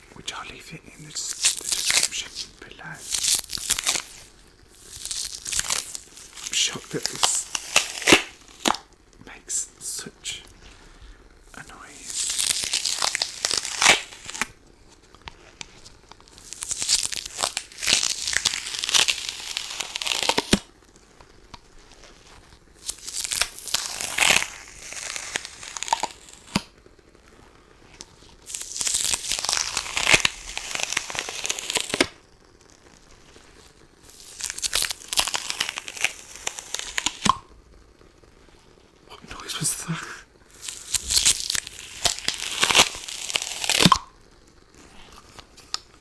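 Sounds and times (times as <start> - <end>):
lint roller sheet crackling: 1.0 - 8.9, 12.0 - 38.9, 40.5 - 46.0.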